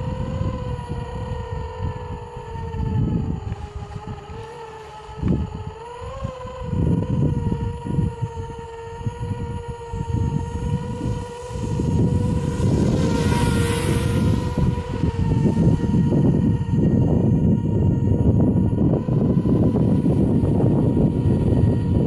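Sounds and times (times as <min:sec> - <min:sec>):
quadcopter motors whining: 0:00.0 - 0:22.0
wind rumble on microphone: 0:00.0 - 0:22.0.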